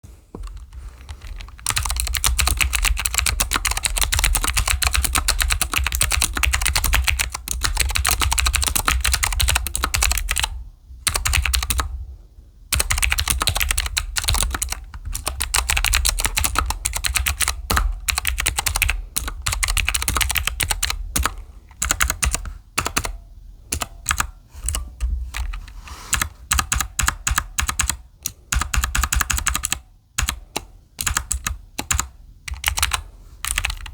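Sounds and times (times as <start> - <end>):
typing on a mechanical keyboard: 0.4 - 11.9, 12.7 - 33.9.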